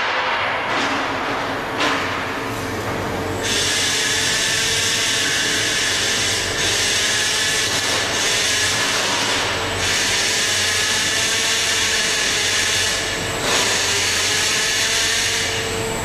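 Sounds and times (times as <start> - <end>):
steady machine noise: 0.0 - 16.0.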